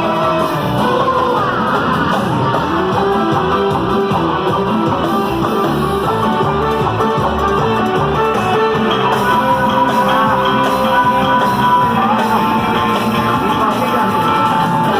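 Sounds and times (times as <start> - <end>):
guitar-driven music: 0.0 - 14.9.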